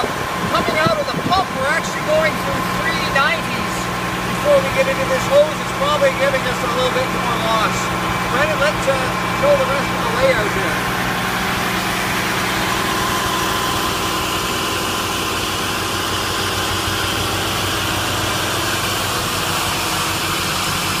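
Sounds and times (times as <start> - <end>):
fire engine pump running: 0.0 - 21.0.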